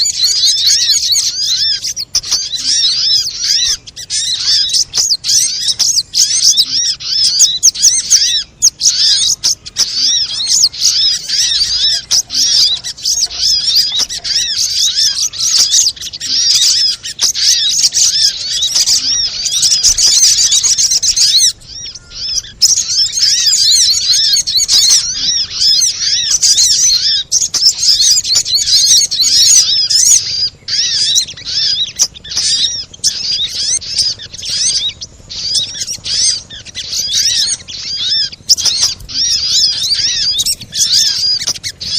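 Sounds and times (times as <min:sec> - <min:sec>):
bird chirping rapidly: 0:00.0 - 0:41.9.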